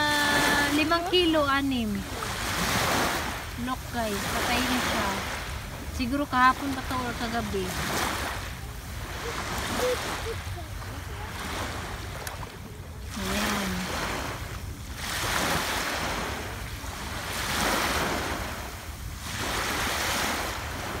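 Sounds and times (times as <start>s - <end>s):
small waves on sandy beach: 0.0s - 21.0s.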